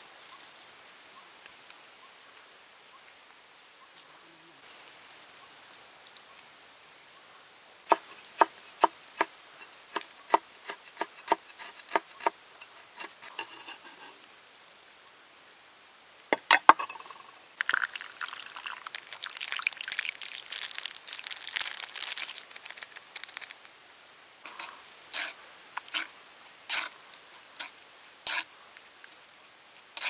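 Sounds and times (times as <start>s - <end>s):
faint background hiss: 0.0s - 30.0s.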